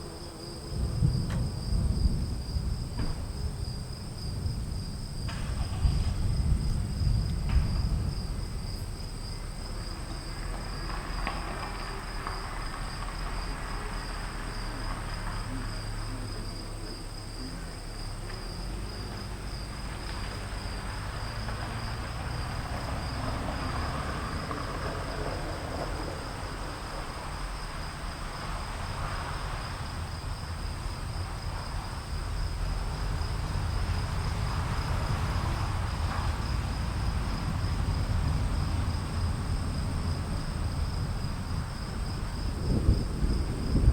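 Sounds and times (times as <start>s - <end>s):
distant thunder rumbling: 0.0s - 43.9s
high-pitched insect chorus: 0.0s - 43.9s.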